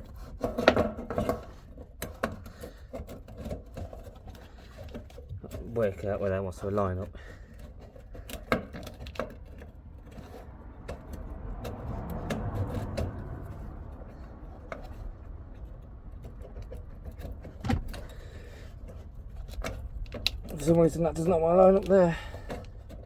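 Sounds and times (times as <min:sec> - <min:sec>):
light clicks and knocks: 0:00.0 - 0:23.0
low background rumble: 0:00.0 - 0:23.0.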